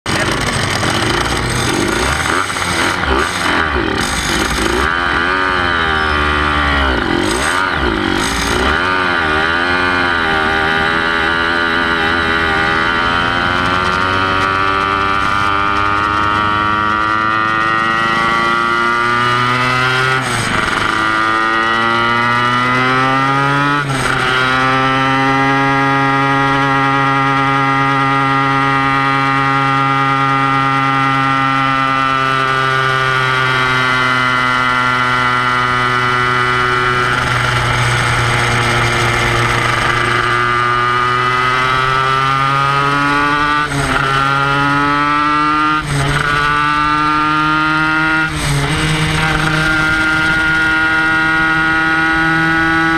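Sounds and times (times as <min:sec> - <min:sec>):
two-stroke motorcycle engine revving: 0:00.0 - 0:52.9.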